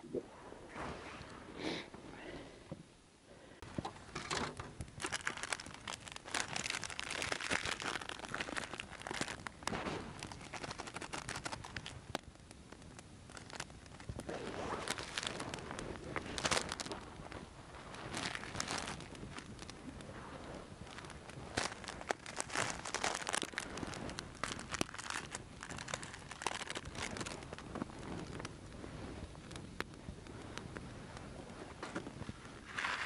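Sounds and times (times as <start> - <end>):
rustling and crackling: 3.6 - 33.0.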